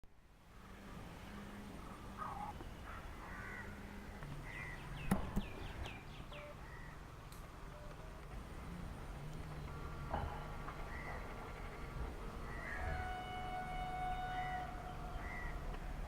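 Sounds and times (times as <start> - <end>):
birds calling: 1.2 - 8.4, 9.4 - 16.0.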